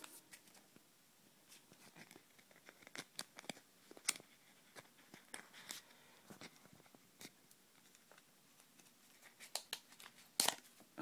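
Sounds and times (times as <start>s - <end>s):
multi-tool clicks and crinkling: 1.7s - 10.8s.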